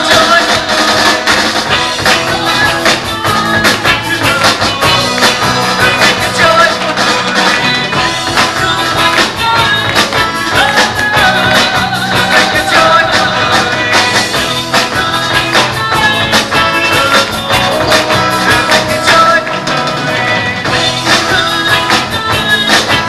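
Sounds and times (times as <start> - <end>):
drum kit beat: 0.0 - 23.0
electric guitar: 0.0 - 23.0.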